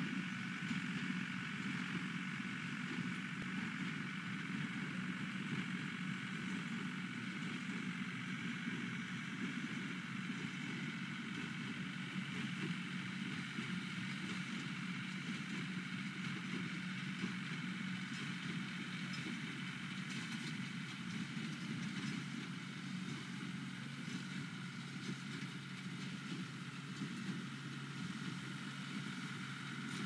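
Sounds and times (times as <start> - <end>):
distant tractor and baler drone: 0.0 - 30.0.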